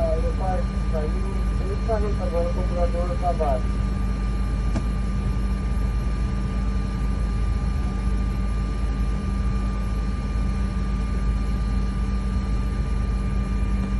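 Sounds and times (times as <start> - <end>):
machinery low hum: 0.0 - 13.9
thin steady whine: 0.0 - 13.9.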